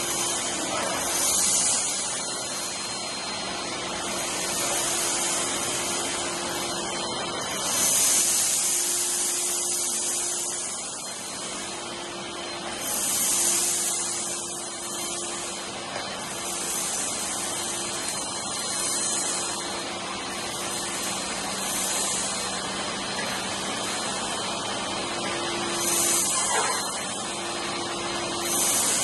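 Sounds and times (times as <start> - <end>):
vacuum sucking up granules: 0.0 - 11.7, 12.4 - 29.0
vacuum cleaner running: 0.0 - 29.0.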